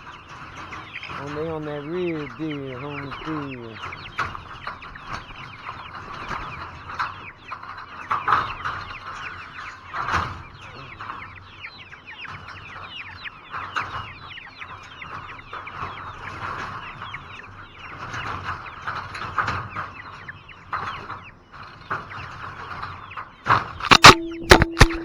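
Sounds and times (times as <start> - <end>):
chickens peeping and clucking: 0.0 - 25.0.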